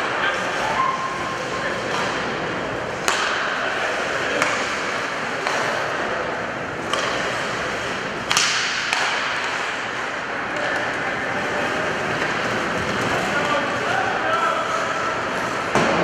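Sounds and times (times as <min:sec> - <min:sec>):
sticks hitting puck: 0:01.8 - 0:02.4, 0:03.0 - 0:16.0
skates scraping on ice: 0:03.0 - 0:16.0.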